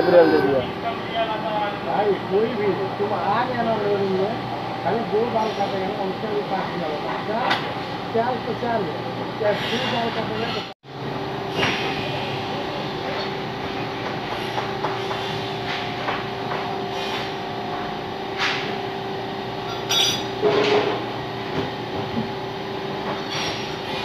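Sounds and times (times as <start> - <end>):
workshop machinery humming: 0.0 - 24.0.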